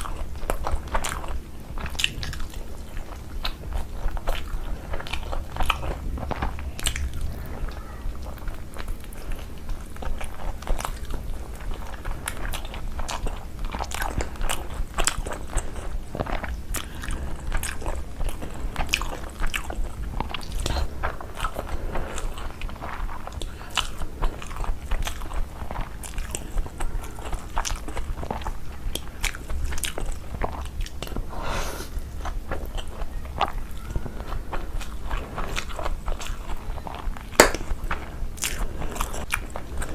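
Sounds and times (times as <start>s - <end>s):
low hum: 0.0s - 39.9s
mouth smacks and clicks: 0.0s - 39.9s
person chewing food: 0.0s - 39.9s.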